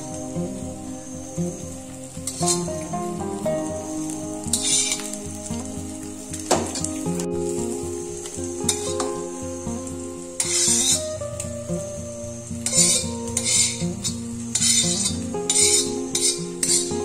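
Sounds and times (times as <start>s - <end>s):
beans sizzling in oil: 0.0s - 17.0s.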